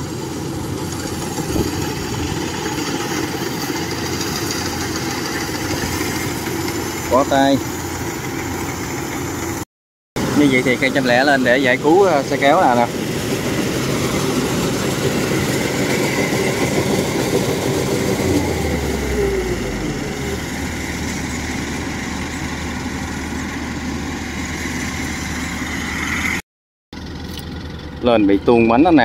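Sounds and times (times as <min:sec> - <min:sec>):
combine harvester diesel engine: 0:00.0 - 0:09.6, 0:10.2 - 0:26.4, 0:27.0 - 0:29.0.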